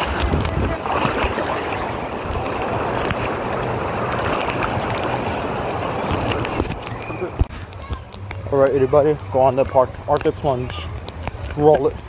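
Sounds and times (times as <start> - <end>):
muffled water churning: 0.0 - 12.0.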